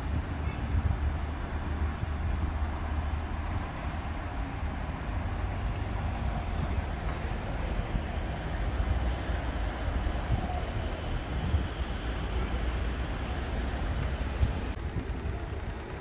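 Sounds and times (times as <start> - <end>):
tram rumbling: 0.0 - 16.0
wind buffeting microphone: 0.0 - 16.0.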